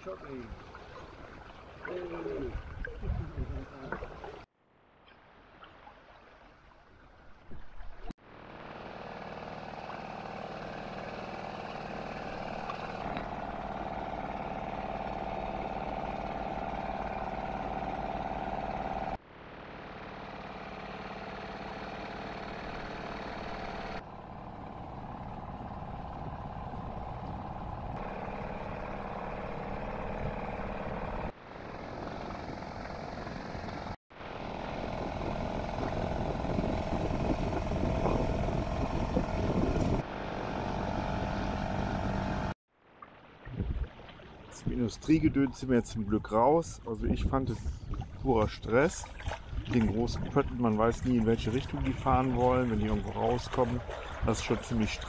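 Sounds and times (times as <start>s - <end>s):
engine droning hum: 8.2s - 42.6s, 44.3s - 55.0s.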